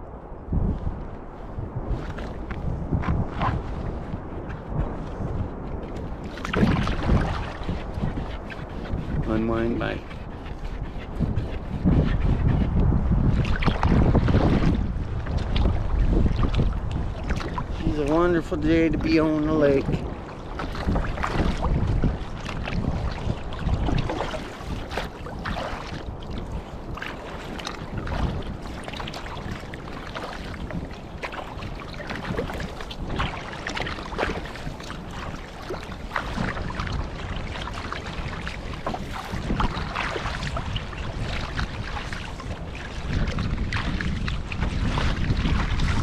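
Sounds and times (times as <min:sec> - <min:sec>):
wind buffeting microphone: 0:00.0 - 0:46.0
waves slapping against kayak hull: 0:00.6 - 0:46.0.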